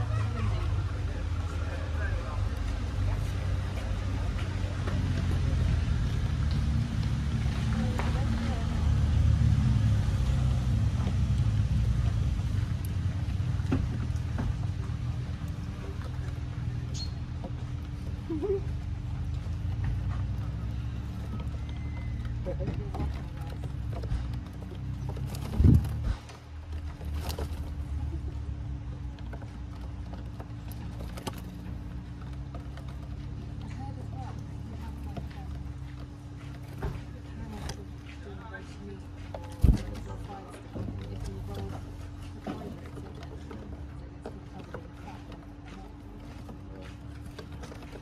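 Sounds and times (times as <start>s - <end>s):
birds pecking on wooden boards: 0.0s - 48.0s
vehicle engine rumbling: 0.0s - 48.0s.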